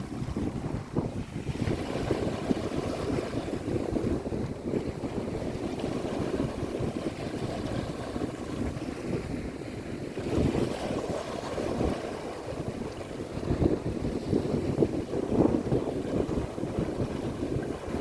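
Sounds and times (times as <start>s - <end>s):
sea water washing: 0.0s - 18.0s
wind buffeting microphone: 0.0s - 18.0s.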